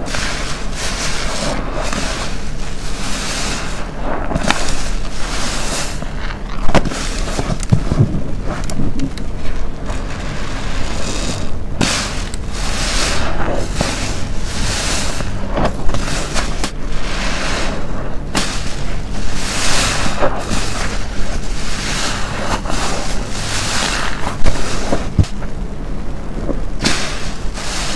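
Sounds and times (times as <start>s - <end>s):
wet sponge squelching: 0.0s - 25.4s, 26.8s - 27.9s.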